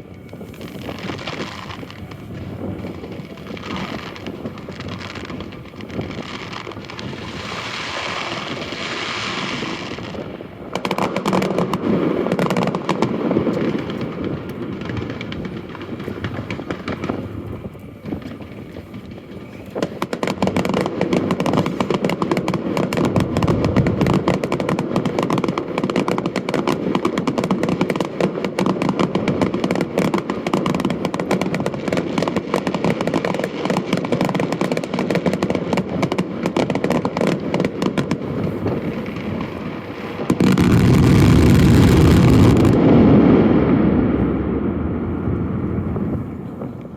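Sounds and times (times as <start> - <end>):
fireworks hissing and bursting: 0.0 - 46.9.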